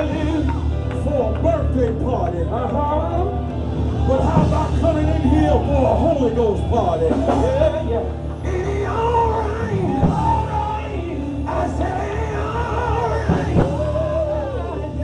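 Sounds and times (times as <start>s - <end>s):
live band playing gospel music: 0.0s - 15.0s
low bass line: 0.0s - 15.0s.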